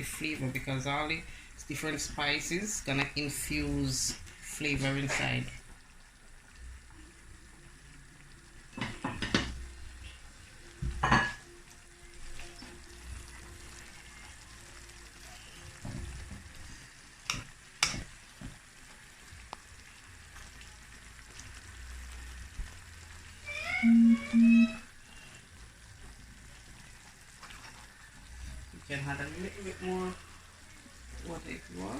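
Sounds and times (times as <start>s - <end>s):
chicken sizzling in a pot: 0.0s - 31.9s.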